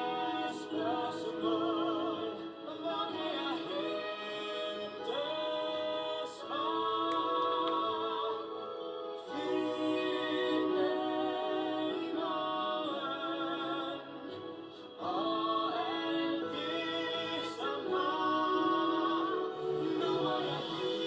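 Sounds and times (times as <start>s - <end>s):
sung melody with orchestral backing: 0.0s - 21.0s.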